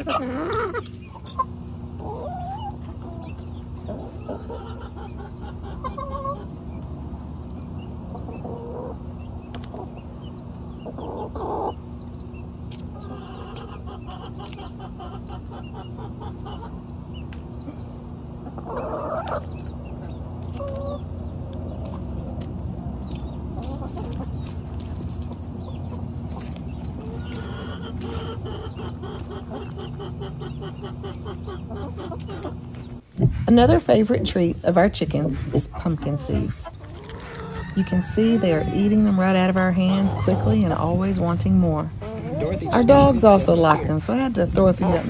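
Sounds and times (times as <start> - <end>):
chickens clucking: 0.0 - 45.0
steady low hum: 0.0 - 45.0.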